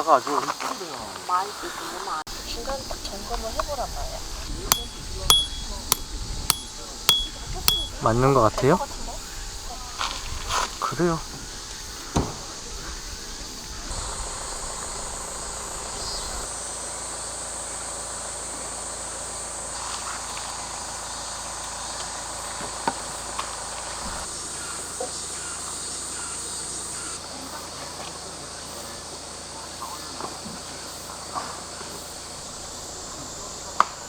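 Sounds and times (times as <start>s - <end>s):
insects chirping chorus: 0.0s - 34.0s.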